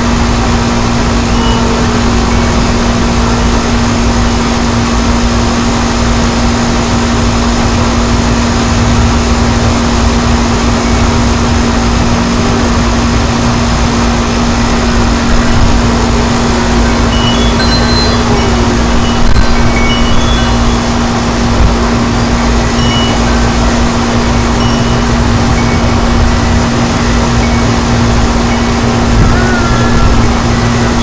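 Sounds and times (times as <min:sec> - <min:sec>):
low hum: 0:00.0 - 0:31.0
strong wind buffeting microphone: 0:00.0 - 0:31.0.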